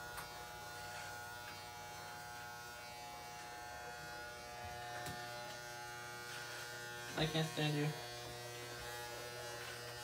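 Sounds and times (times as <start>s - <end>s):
electric shaver buzzing: 0.0s - 10.0s.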